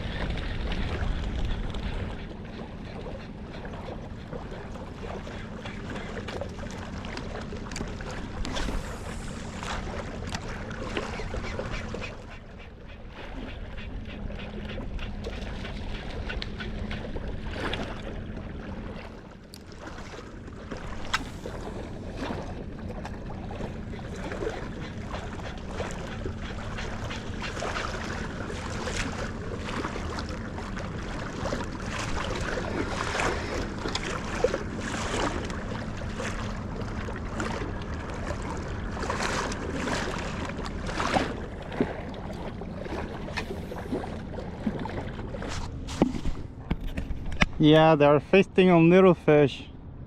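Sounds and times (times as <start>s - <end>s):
low wind rumble on microphone: 0.0s - 48.0s
water lapping and splashing: 0.0s - 50.0s.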